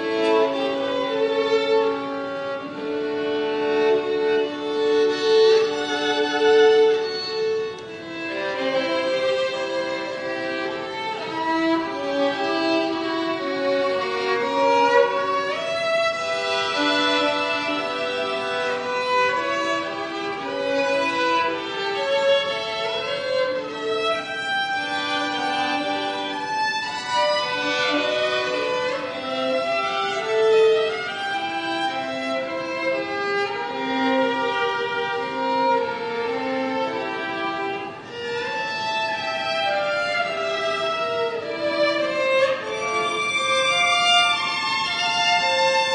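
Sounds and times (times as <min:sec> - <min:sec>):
slow bowed string melody: 0:00.0 - 0:45.9.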